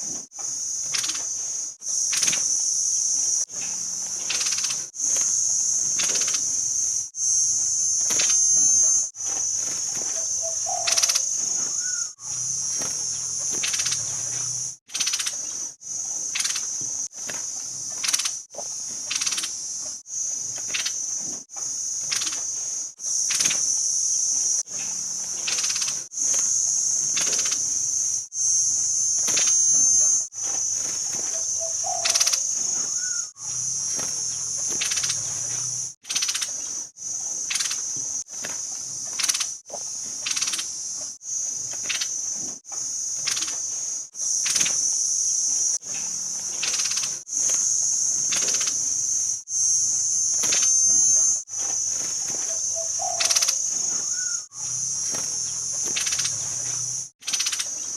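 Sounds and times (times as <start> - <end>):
high-pitched insect buzz: 0.0 - 57.9.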